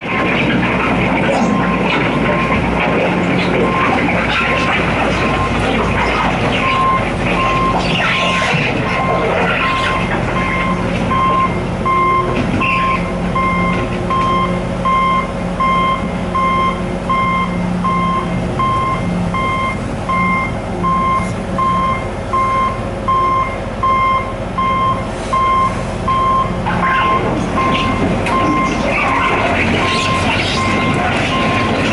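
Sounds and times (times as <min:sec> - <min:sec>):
vehicle engine drone: 0:00.0 - 0:31.9
reversing alarm beeping: 0:01.4 - 0:02.7, 0:03.6 - 0:31.9.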